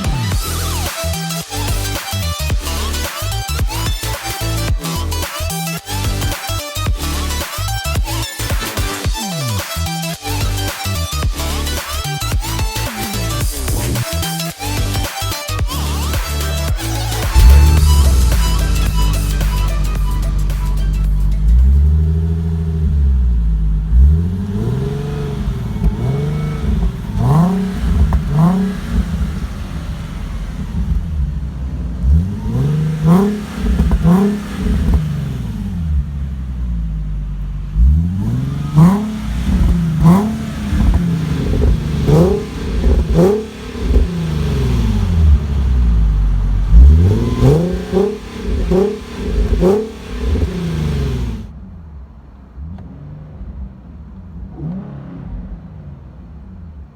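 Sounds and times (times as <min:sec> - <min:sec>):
car engine idling and revving: 0:00.0 - 0:56.9.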